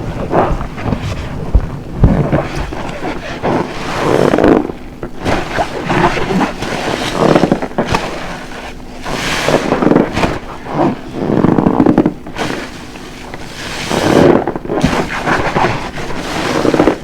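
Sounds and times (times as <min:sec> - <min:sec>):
wet sponge squelching: 0:00.0 - 0:17.0.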